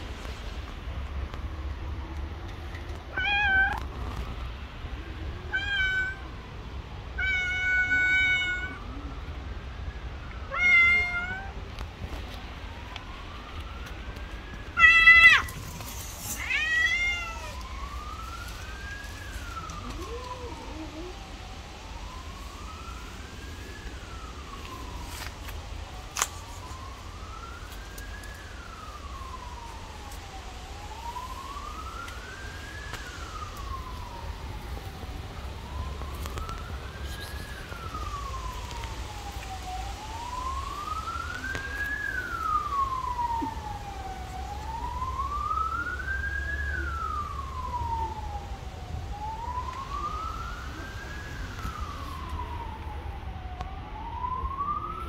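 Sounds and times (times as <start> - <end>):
siren wailing: 2.9 - 55.0.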